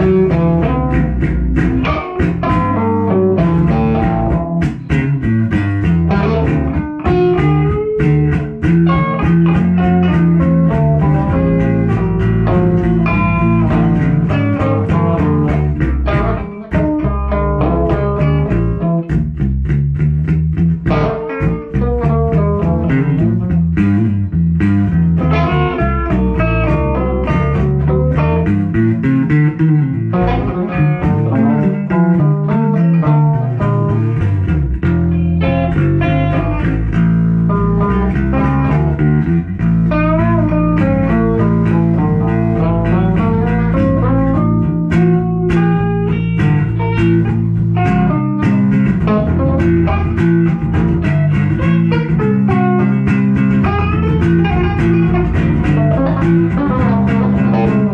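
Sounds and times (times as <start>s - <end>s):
bass guitar line: 0.0s - 57.9s
blues guitar picking: 0.0s - 57.9s.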